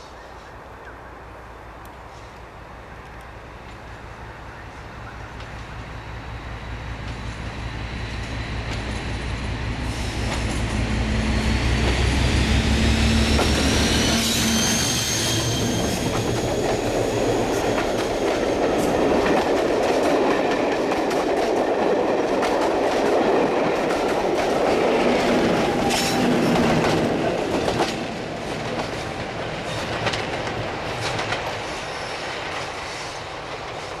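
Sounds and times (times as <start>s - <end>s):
diesel locomotive engine: 0.0s - 34.0s
train wheels clickety-clack: 5.3s - 5.8s, 6.9s - 34.0s.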